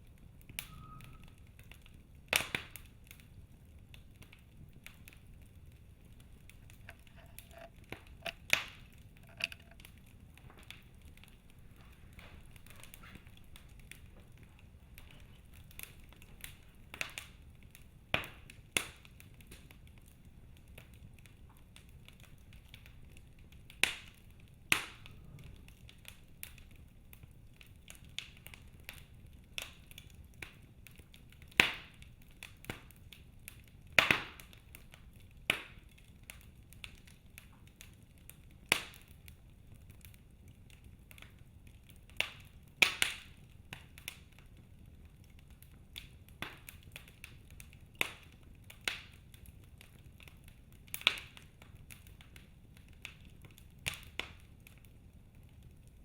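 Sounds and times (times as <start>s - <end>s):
faint low hiss: 0.0s - 56.0s
wood fire crackling: 0.0s - 56.0s.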